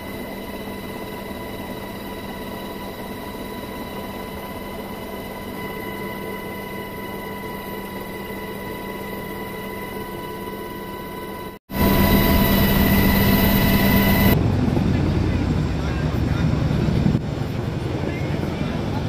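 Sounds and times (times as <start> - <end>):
steady high whine: 0.0 - 17.5
helicopter rotor and engine drone: 0.0 - 19.0.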